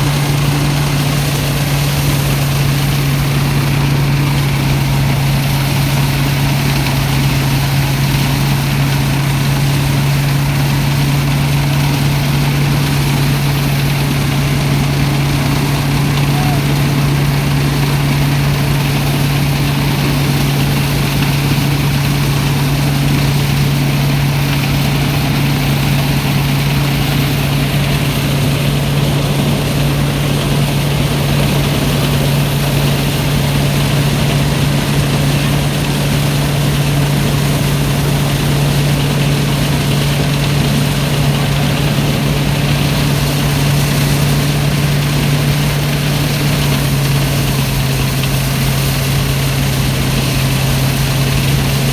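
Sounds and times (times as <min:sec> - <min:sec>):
threshing machine engine humming: 0:00.0 - 0:51.9.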